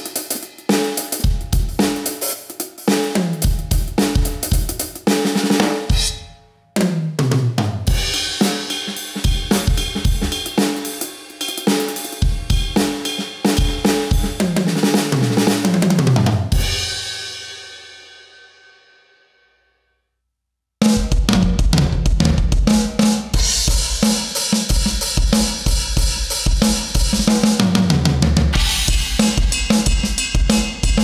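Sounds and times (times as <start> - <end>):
electronic drum kit groove: 0.0 - 6.4, 7.2 - 17.2, 20.8 - 31.0.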